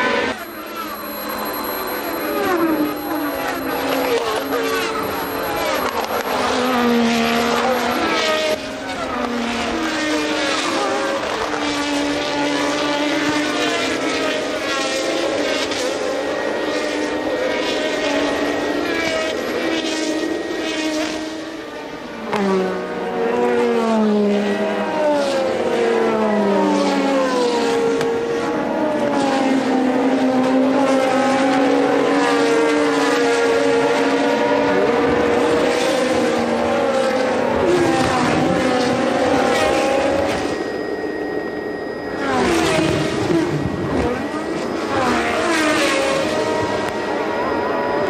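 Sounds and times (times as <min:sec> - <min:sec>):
louder racing car passing: 0:00.0 - 0:48.0
racing car engines: 0:00.0 - 0:48.0.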